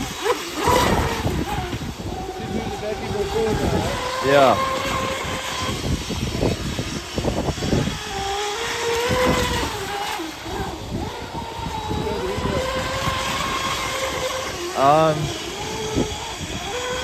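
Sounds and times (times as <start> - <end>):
electric boat motor whining: 0.0 - 17.0
wind buffeting microphone: 0.0 - 17.0.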